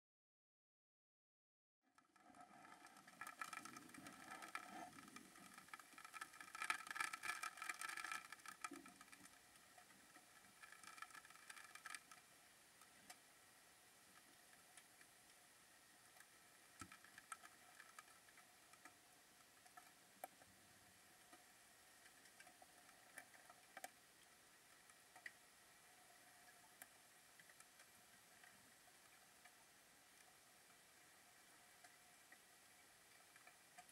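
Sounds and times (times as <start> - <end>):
faint steady tones: 2.0 - 33.9
underwater crackling clicks: 2.2 - 13.2, 16.0 - 20.5, 21.2 - 33.9
low hiss: 2.4 - 33.9.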